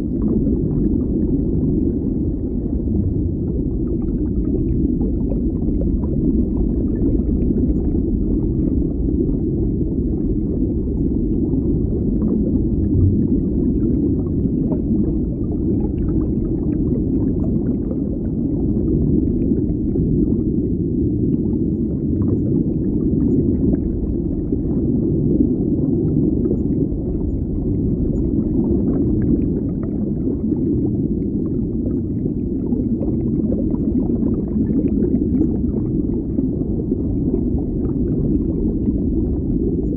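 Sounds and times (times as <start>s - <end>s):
faint crackles and bubbling: 0.0s - 39.9s
underwater low rumble: 0.0s - 39.9s.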